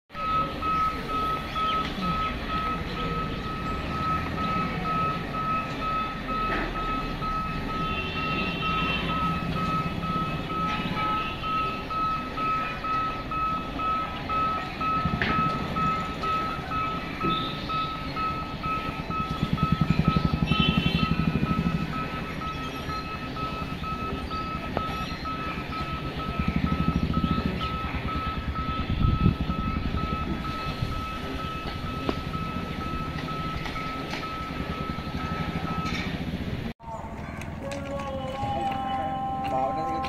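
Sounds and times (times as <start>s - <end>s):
electronic warning beeps: 0.1s - 36.7s
road traffic hum: 0.1s - 40.0s.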